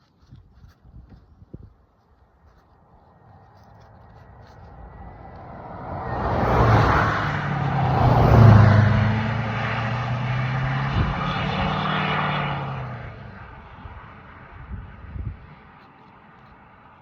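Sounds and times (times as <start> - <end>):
vehicle engine hum: 2.0 - 17.0.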